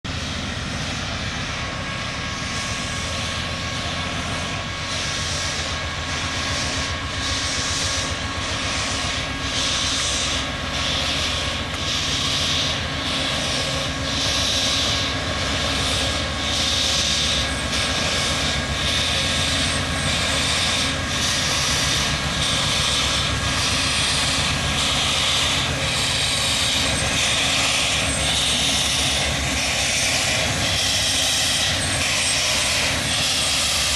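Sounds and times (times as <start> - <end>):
steam locomotive exhaust chuffs: 0.1 - 33.9.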